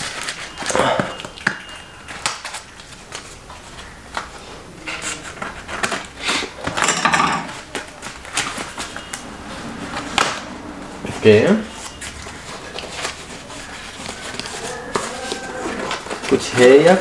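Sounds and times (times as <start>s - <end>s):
packaging rustling and crinkling: 0.0s - 6.8s, 7.5s - 9.3s, 10.0s - 17.0s.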